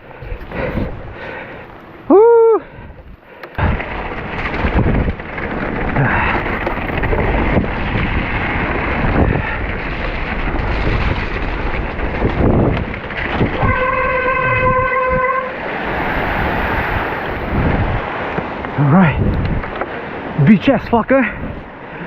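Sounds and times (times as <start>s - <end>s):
wind on microphone: 0.0s - 1.3s, 2.0s - 20.4s, 21.2s - 22.0s
bike tyres rolling through mud: 0.0s - 22.0s.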